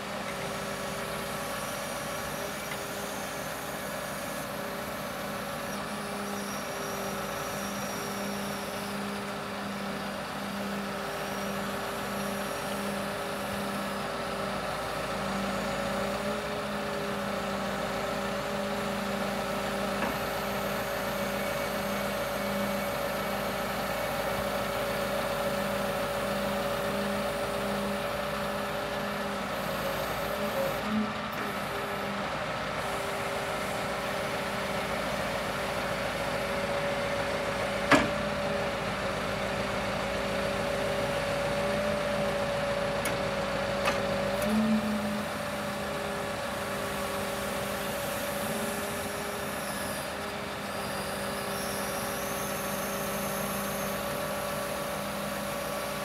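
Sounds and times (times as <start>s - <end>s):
hydraulic whine: 0.0s - 56.0s.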